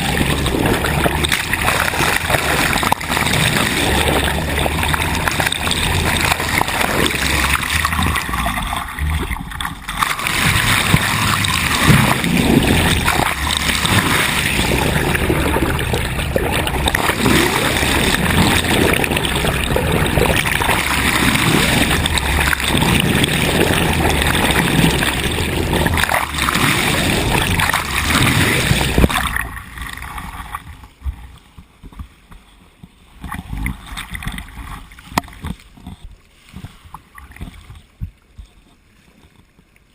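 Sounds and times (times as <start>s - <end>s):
water rushing along a boat hull: 0.0s - 39.9s.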